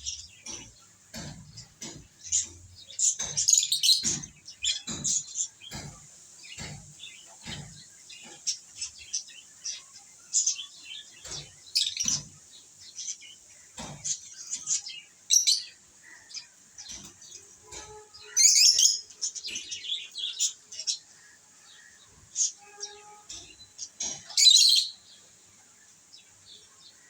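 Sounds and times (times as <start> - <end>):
lovebirds chirping: 0.0 - 27.0.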